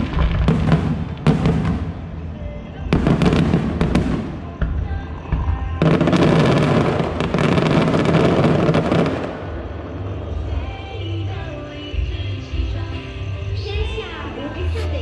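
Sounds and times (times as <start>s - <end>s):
fireworks crackling and banging: 0.0s - 12.7s
music playing: 0.0s - 15.0s.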